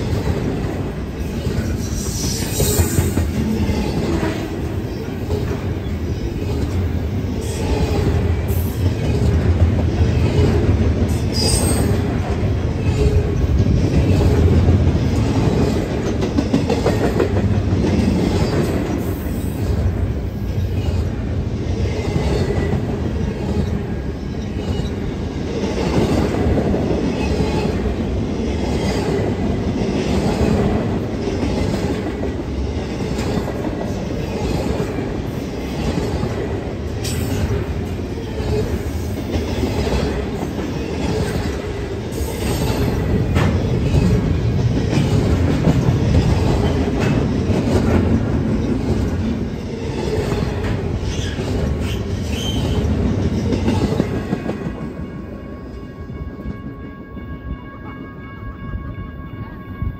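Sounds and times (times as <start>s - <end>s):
train wheels rumbling on rails: 0.0s - 57.7s.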